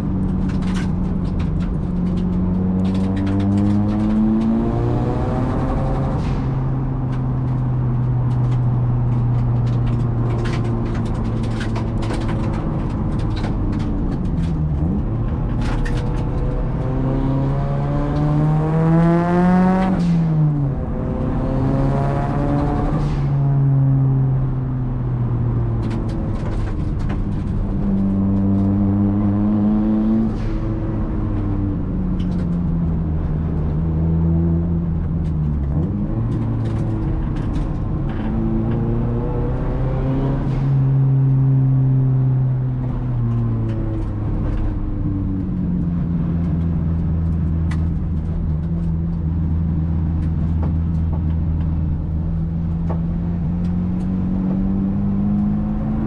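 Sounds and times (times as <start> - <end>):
turbocharged car engine accelerating: 0.0 - 56.0.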